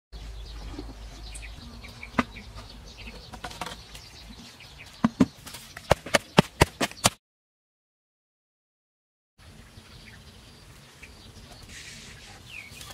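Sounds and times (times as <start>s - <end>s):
birds chirping faintly: 0.2s - 7.2s, 9.4s - 12.9s.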